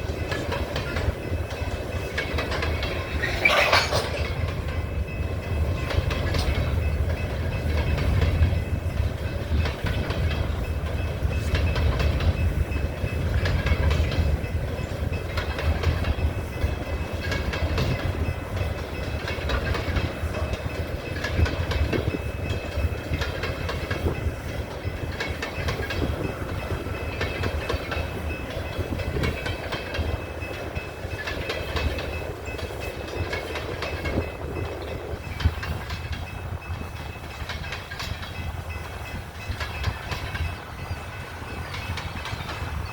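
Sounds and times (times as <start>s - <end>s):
steel wheels rumbling on track: 0.0s - 42.9s
wheels clacking over rail joints: 0.0s - 42.9s.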